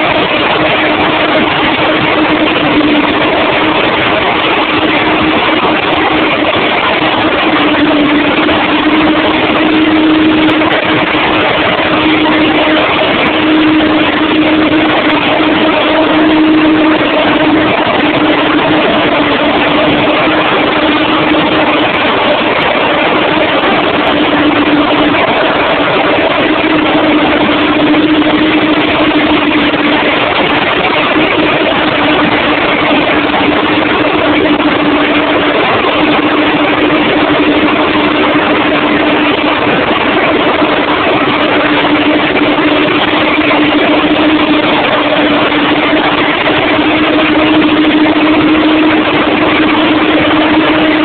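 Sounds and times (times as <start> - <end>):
marine diesel engines droning: 0.0 - 51.0.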